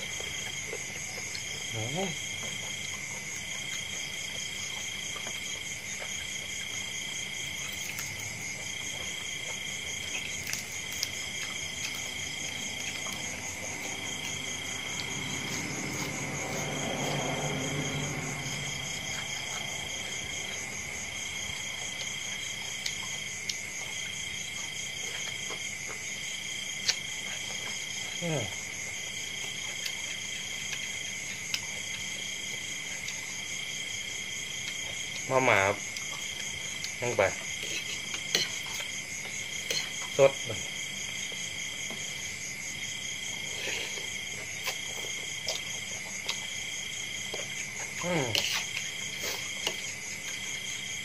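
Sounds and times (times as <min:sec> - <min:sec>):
crickets chirping: 0:00.0 - 0:51.0.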